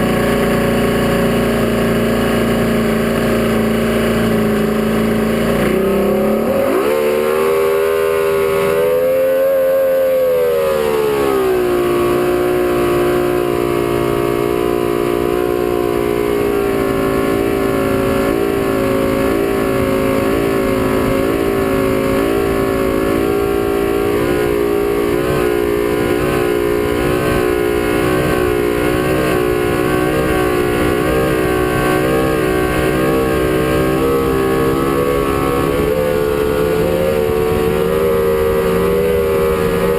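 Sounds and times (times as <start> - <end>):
powerboat engine running hard: 0.0 - 39.9.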